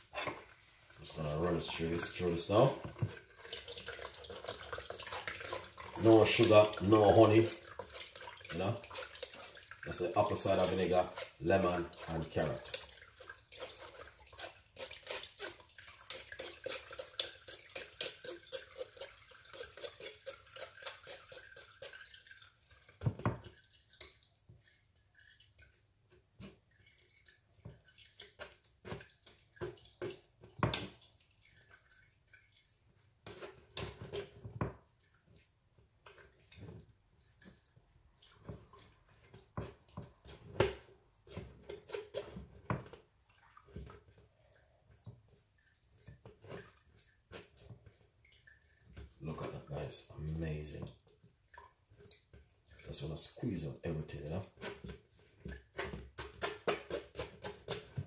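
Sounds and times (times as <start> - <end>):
juice dripping through strainer: 0.0 - 58.0.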